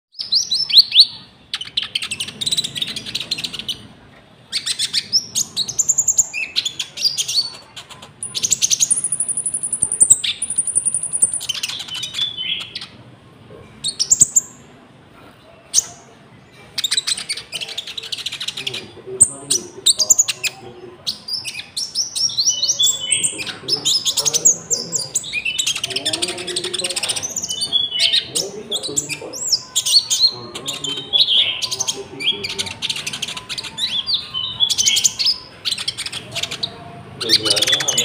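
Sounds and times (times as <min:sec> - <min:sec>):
songbird high chattering song: 0:00.1 - 0:13.0, 0:13.8 - 0:14.7, 0:16.7 - 0:38.0.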